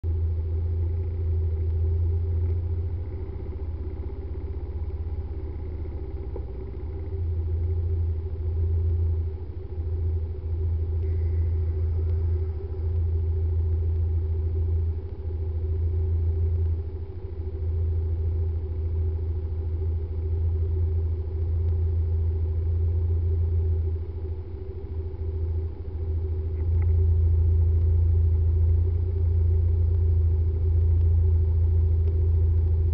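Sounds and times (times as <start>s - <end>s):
muffled scooter engines idling: 0.1s - 32.9s.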